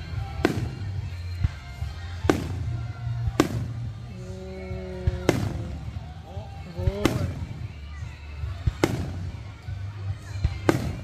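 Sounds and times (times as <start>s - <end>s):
fireworks bangs: 0.0s - 4.1s, 4.9s - 7.8s, 8.6s - 11.0s
music playing: 0.0s - 11.0s.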